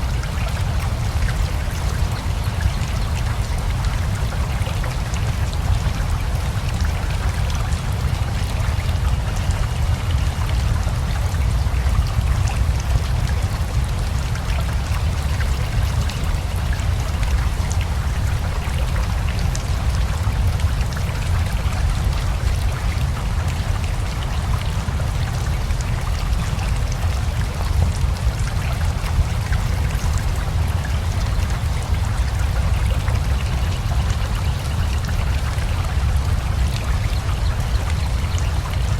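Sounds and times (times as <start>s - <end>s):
river flowing: 0.0s - 38.9s
steady rain: 0.0s - 38.9s.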